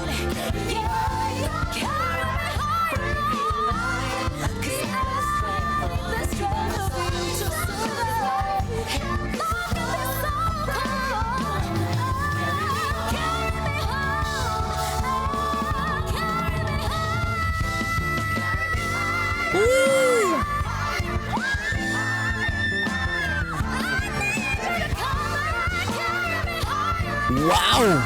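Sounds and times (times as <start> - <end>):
full band accompaniment: 0.0 - 28.0
woman singing pop ballad: 0.0 - 28.0.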